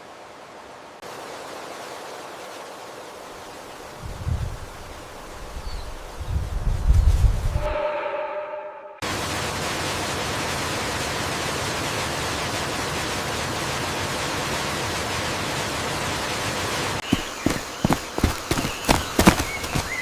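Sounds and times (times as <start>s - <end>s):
water rushing: 0.0s - 6.2s, 9.0s - 20.0s.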